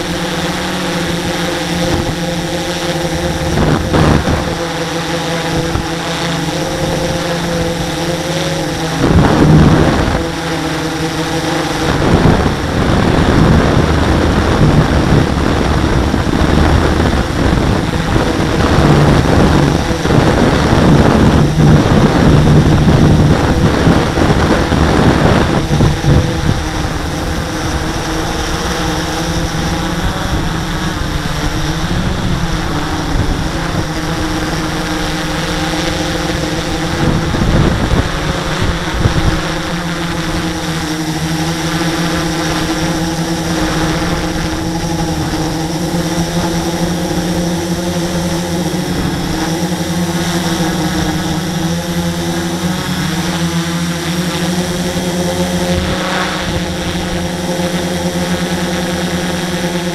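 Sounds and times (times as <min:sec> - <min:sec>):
wind buffeting microphone: 0:00.0 - 0:59.0
drone motors whining: 0:00.0 - 0:59.9.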